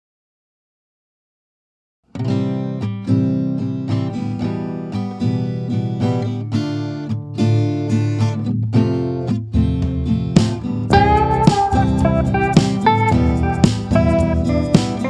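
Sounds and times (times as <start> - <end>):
acoustic guitar playing: 2.1 - 15.0.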